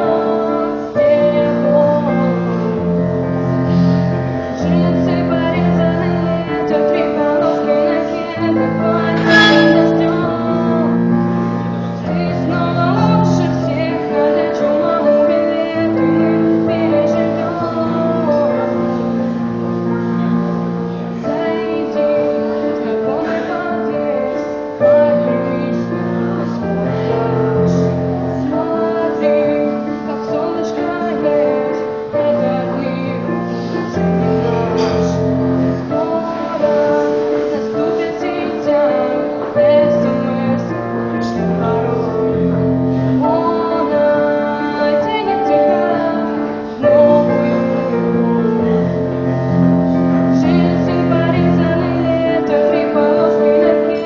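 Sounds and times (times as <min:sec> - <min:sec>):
woman singing: 0:00.0 - 0:03.4, 0:04.2 - 0:19.4, 0:21.2 - 0:54.0
instrumental accompaniment: 0:00.0 - 0:54.0.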